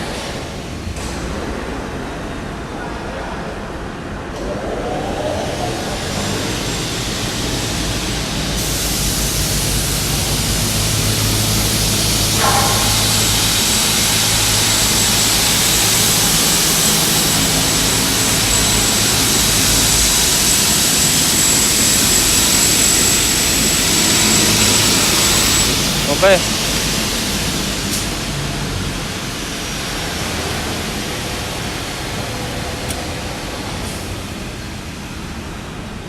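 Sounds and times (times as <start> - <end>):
cutting saw running: 5.4 - 34.4.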